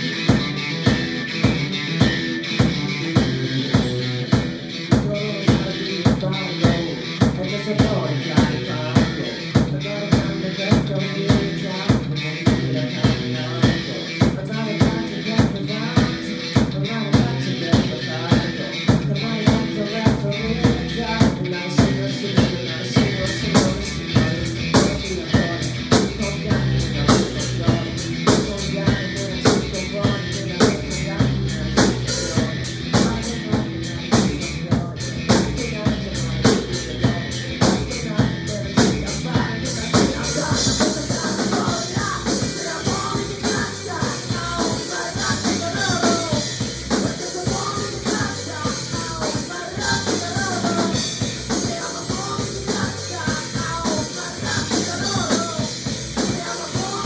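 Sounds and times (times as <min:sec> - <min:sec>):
drum kit beat: 0:00.0 - 0:57.0.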